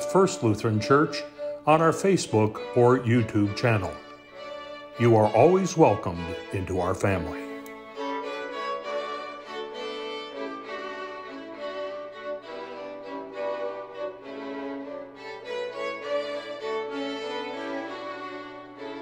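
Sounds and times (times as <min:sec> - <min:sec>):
violin playing slow held notes: 0:00.0 - 0:19.0.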